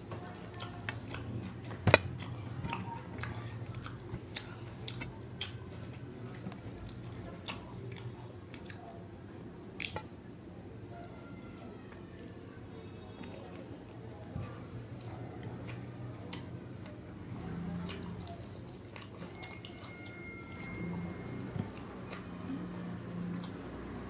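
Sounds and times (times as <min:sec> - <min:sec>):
chewing and wet mouth noises: 0:00.0 - 0:09.0, 0:09.7 - 0:10.1, 0:13.2 - 0:20.8, 0:21.5 - 0:24.0.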